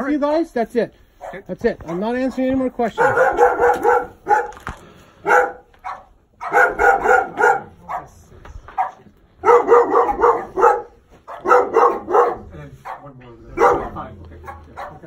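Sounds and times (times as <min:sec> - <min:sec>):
dog barking: 0:01.2 - 0:15.0.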